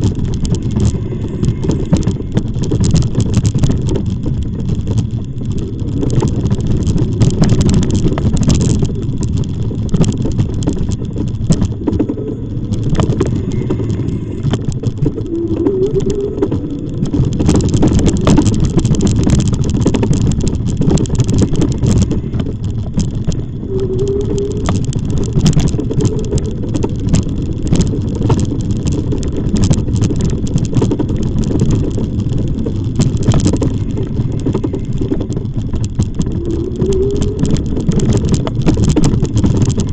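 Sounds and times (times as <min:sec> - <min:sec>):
bike rattling clicks: 0:00.0 - 0:39.9
road rumble: 0:00.0 - 0:39.9
wind buffeting microphone: 0:00.0 - 0:39.9.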